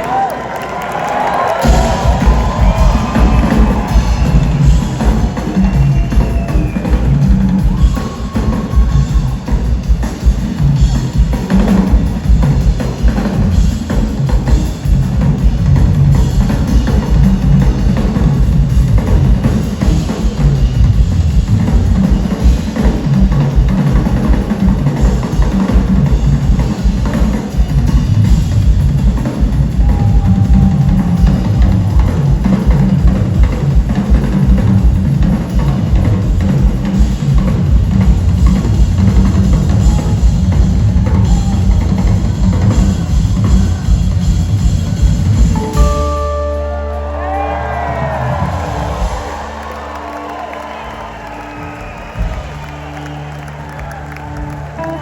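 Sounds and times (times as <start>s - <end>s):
bass drum and snare: 1.3s - 46.2s, 47.5s - 55.0s
live band music: 1.5s - 55.0s.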